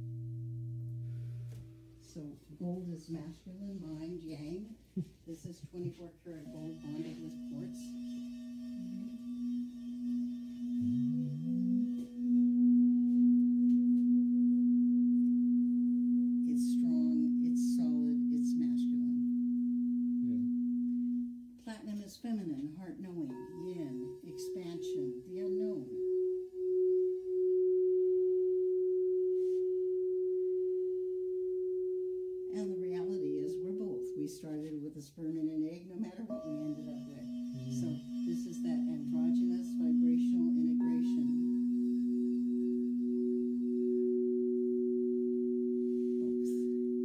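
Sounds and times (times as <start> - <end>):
singing bowl ringing tone: 0.0 - 4.7, 5.8 - 47.0.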